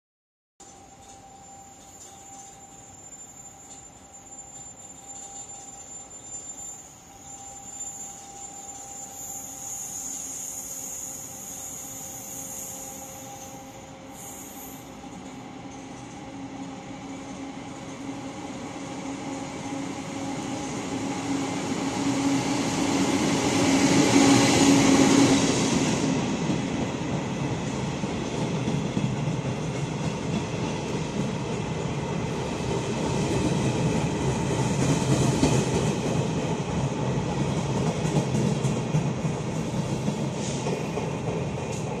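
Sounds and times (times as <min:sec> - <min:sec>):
train rumbling past: 0:00.6 - 0:42.0.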